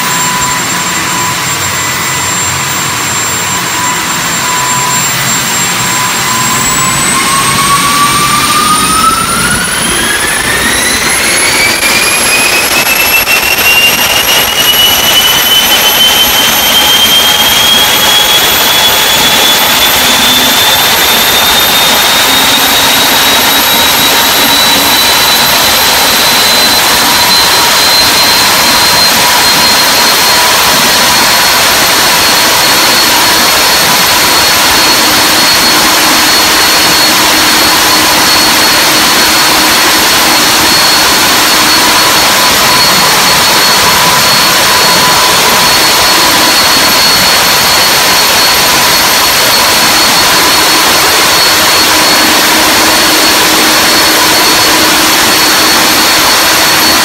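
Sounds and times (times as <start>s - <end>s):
high engine whine: 0.0s - 57.0s
turbine engine roaring: 0.0s - 57.0s.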